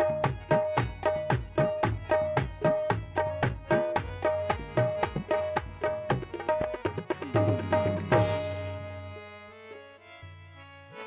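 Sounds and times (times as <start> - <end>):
tabla stroke: 0.0 - 9.2
harmonium notes held: 0.0 - 11.0.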